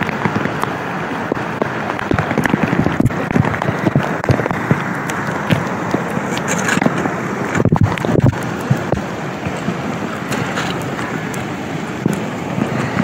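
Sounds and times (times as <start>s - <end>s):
fast-flowing floodwater: 0.0s - 13.0s
heavy rain: 0.0s - 13.0s.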